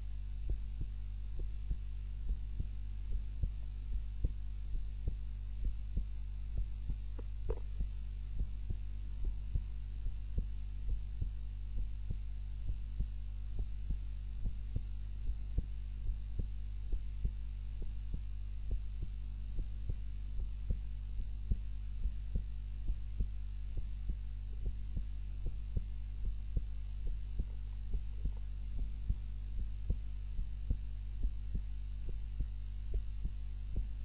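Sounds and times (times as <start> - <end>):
heart beating: 0.0 - 34.0
steady low hum: 0.0 - 34.0.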